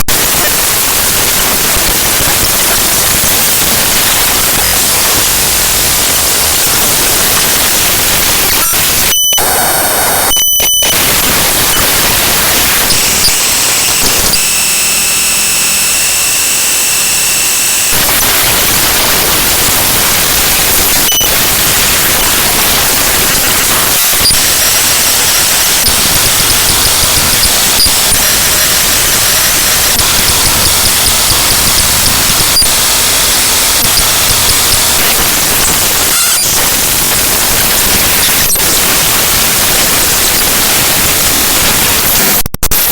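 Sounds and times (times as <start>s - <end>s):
loud harsh static noise: 0.0s - 42.9s
steady high tones: 2.6s - 37.2s.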